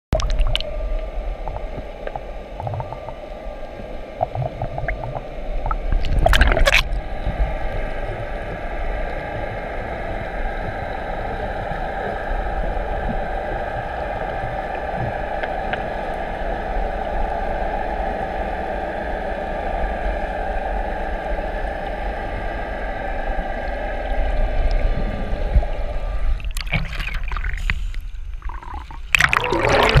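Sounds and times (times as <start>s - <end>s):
muffled underwater rushing hum: 0.1s - 30.0s
water splashing and gurgling: 0.1s - 30.0s.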